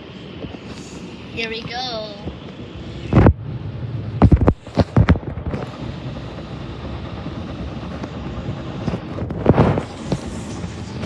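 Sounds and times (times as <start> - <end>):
car wash rushing noise: 0.0 - 11.0.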